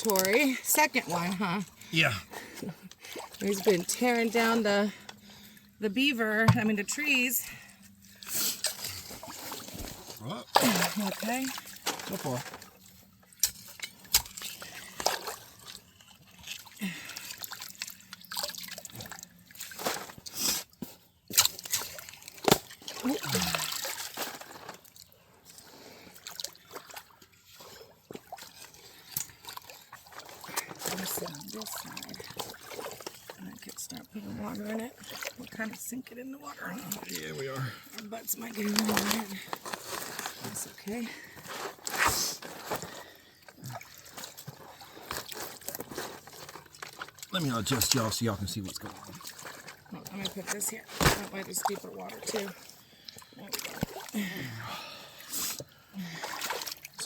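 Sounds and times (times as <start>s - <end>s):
water splashing in a creek: 0.0s - 2.0s, 3.0s - 5.0s, 6.0s - 37.6s, 38.4s - 57.0s.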